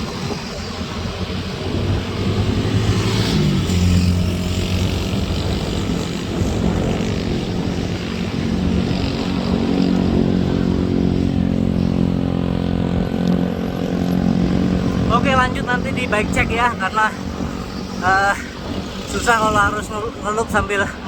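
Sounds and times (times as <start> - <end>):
motor vehicle engine running: 0.0 - 19.9
road and wind noise: 0.0 - 21.0.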